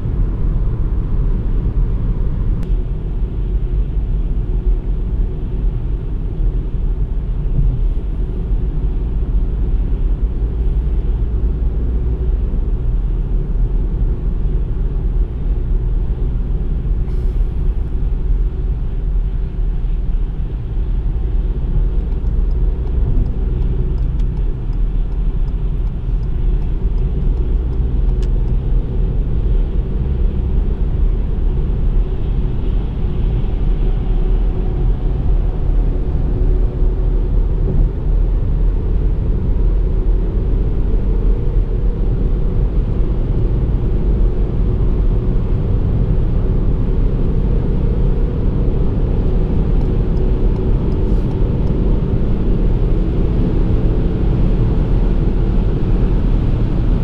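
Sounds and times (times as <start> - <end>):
car driving at speed: 0.0 - 57.0.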